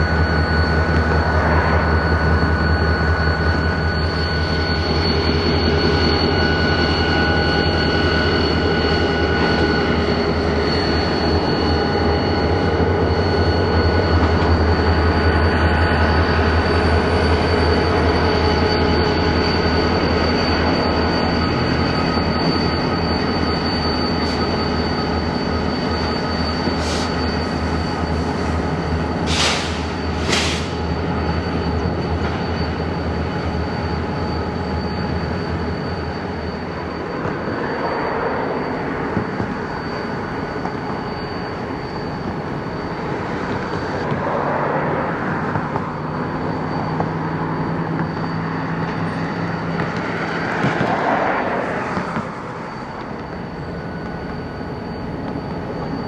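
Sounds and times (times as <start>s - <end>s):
diesel locomotives rumbling: 0.0s - 56.0s
steel wheels squealing: 0.0s - 56.0s.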